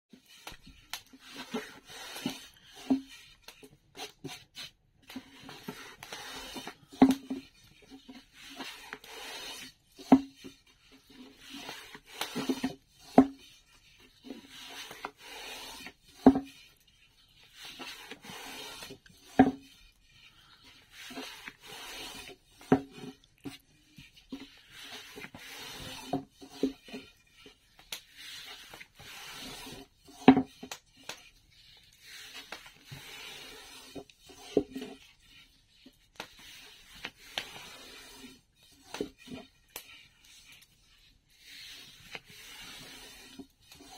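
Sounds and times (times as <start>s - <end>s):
rolling pin rubbing swishes: 0.1s - 43.9s.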